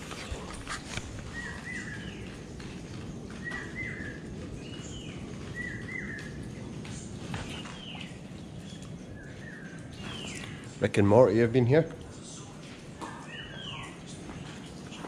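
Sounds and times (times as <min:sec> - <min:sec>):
low outdoor background noise: 0:00.0 - 0:15.0
bird chirping: 0:01.2 - 0:11.3, 0:12.1 - 0:15.0.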